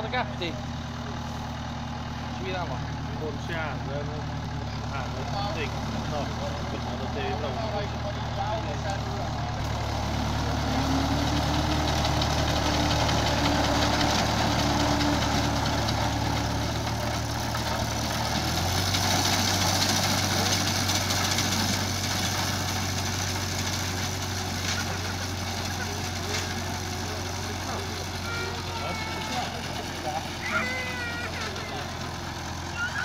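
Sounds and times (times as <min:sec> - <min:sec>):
tractor engine under load: 0:00.0 - 0:33.0.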